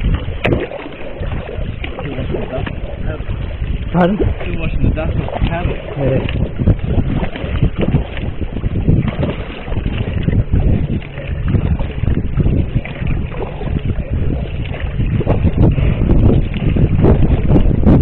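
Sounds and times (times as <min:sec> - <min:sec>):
paddle splashing in water: 0:00.0 - 0:18.0
wind rumble on microphone: 0:00.0 - 0:18.0.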